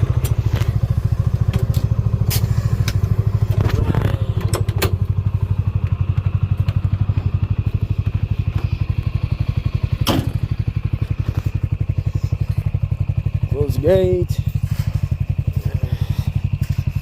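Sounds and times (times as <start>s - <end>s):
buggy engine running: 0.0s - 17.0s.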